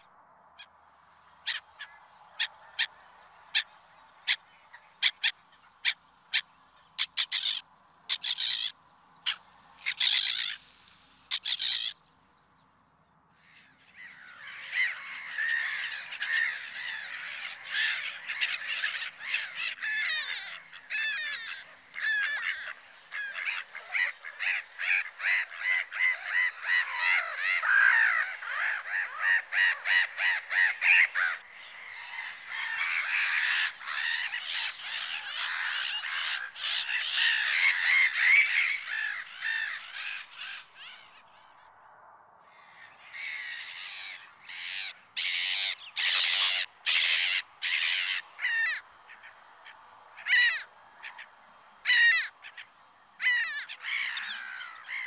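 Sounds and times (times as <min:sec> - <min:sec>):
flock of gulls calling: 0:01.3 - 0:12.0, 0:13.4 - 0:41.6, 0:42.5 - 0:55.0.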